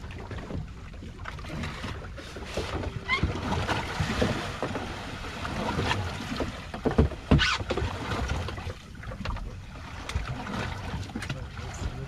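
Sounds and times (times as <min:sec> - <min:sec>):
water slapping against boat hull: 0:00.0 - 0:12.0.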